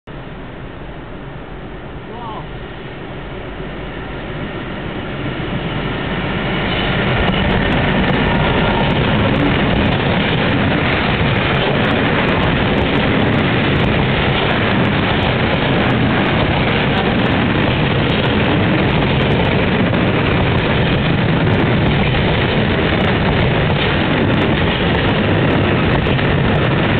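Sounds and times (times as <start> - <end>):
freight train rumbling past: 0.1 - 26.9
rolling wheel noise: 5.0 - 26.9.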